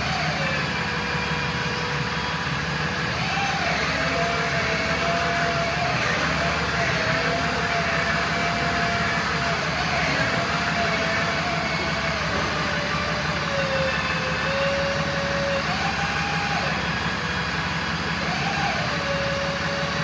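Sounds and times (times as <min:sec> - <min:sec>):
diesel truck engine running: 0:00.0 - 0:20.0
hydraulic boom whine: 0:00.0 - 0:20.0.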